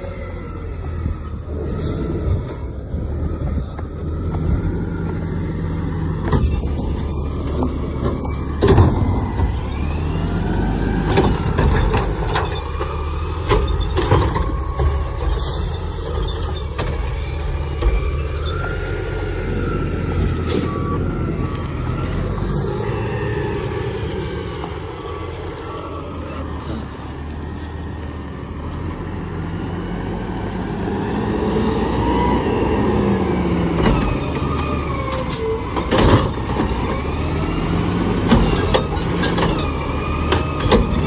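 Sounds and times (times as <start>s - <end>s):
garbage truck hydraulics whine: 0.0s - 27.9s, 31.5s - 41.0s.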